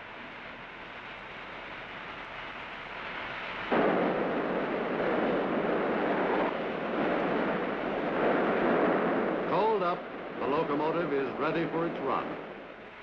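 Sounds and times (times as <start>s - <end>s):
coal pouring down a chute: 0.0s - 12.3s.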